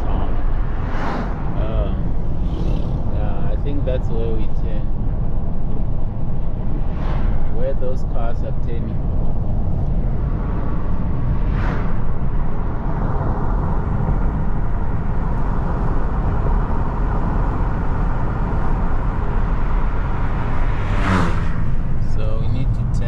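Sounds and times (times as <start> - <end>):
engine and tyre rumble: 0.0 - 23.0
rush of noise: 0.0 - 23.0.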